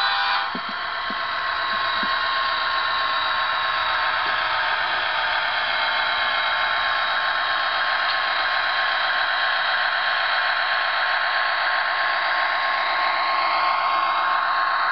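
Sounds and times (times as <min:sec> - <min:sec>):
model train whirring on rails: 0:00.0 - 0:14.9.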